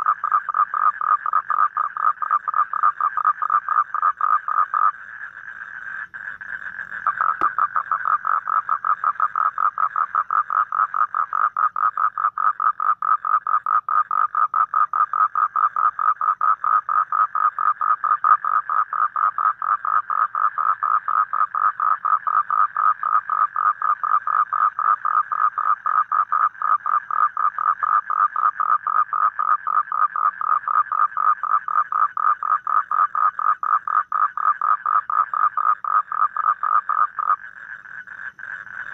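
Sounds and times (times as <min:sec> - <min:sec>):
toad trilling: 0:00.0 - 0:38.9.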